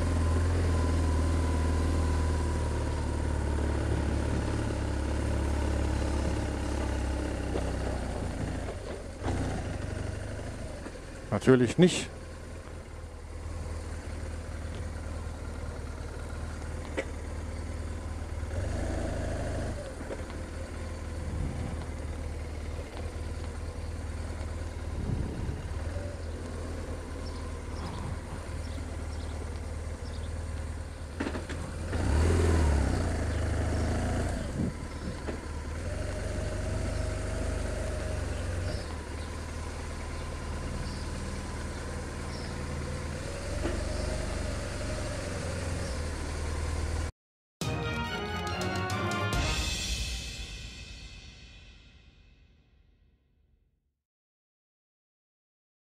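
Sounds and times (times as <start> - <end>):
motorcycle engine revving: 0.0 - 47.1.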